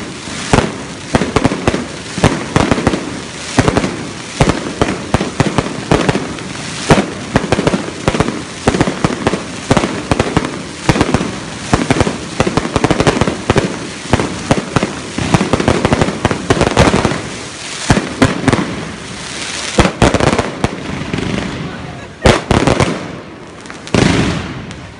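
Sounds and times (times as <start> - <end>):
fireworks bangs: 0.0 - 24.9
fireworks crackling: 0.0 - 24.9.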